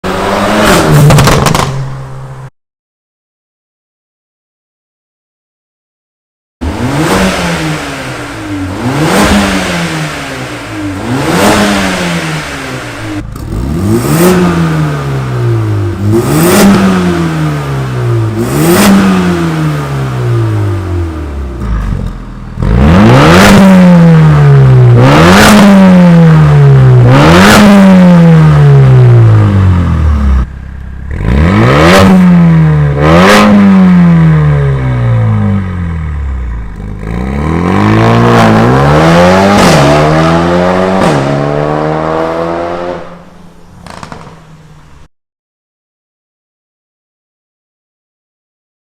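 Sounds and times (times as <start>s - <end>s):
car engine revving: 0.0s - 2.4s, 6.6s - 45.1s.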